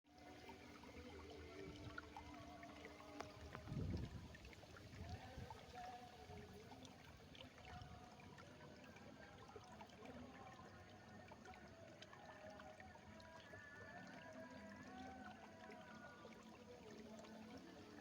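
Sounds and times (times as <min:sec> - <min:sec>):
water trickling: 0:00.1 - 0:18.0.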